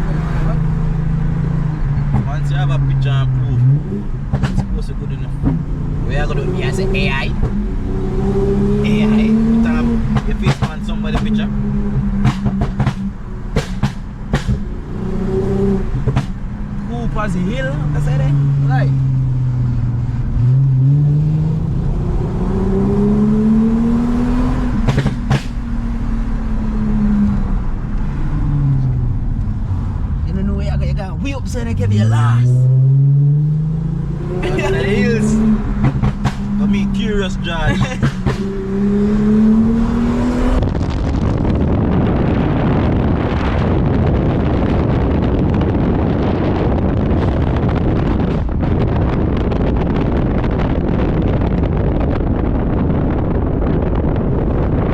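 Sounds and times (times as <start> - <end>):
car engine accelerating: 0.0 - 54.9
wind and road noise: 0.0 - 54.9.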